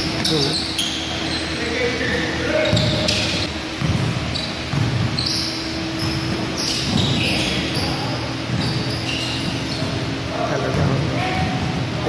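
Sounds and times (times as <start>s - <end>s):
sneakers squeaking: 0.0s - 12.0s
basketball bouncing: 2.1s - 11.9s.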